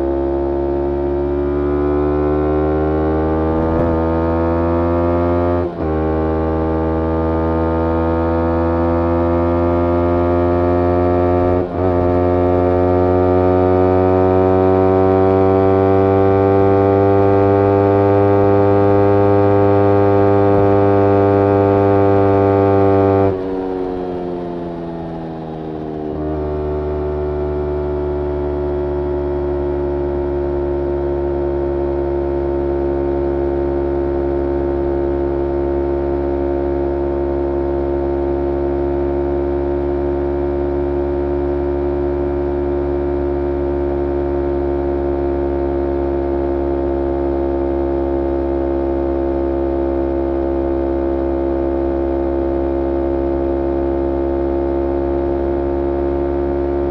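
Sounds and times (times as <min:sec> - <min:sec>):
motorcycle engine revving and idling: 0:00.0 - 0:56.9.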